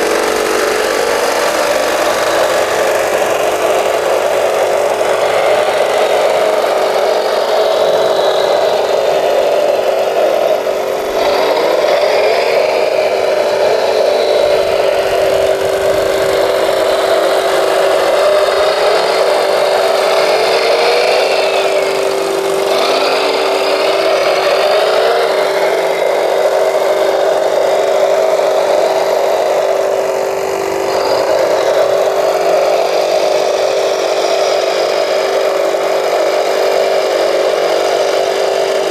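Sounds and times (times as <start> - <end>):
electric motors whining: 0.0 - 38.9
steady drone: 0.0 - 38.9.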